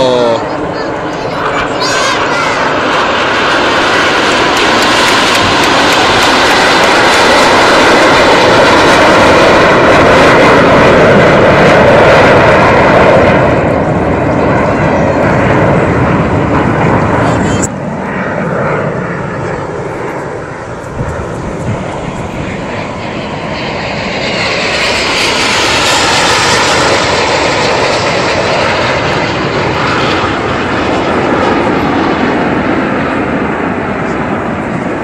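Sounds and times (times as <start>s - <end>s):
low-passing jets rushing: 0.0s - 35.0s.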